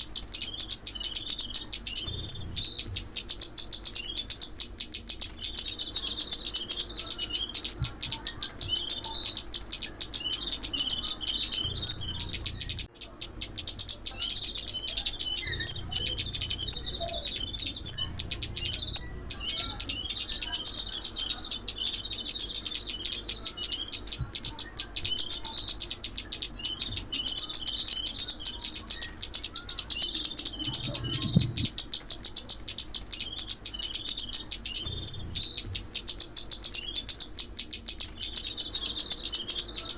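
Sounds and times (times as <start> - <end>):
sunbird twittering song: 0.0 - 39.9.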